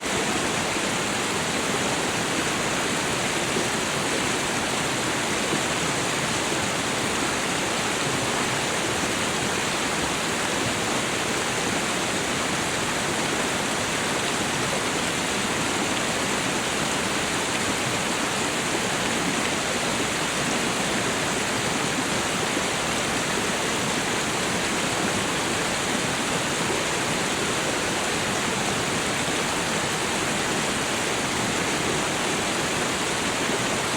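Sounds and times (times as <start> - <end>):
waterfall roaring: 0.0 - 33.9.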